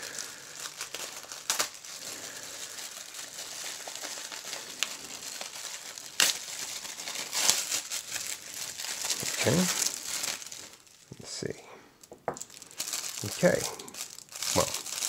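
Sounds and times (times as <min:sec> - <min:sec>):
plastic bag crinkling and tearing: 0:00.0 - 0:11.1, 0:12.3 - 0:15.0.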